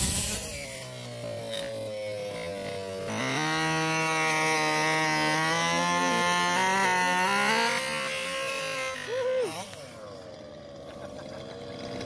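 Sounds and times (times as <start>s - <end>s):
small two-stroke engine buzzing: 0.0s - 12.0s.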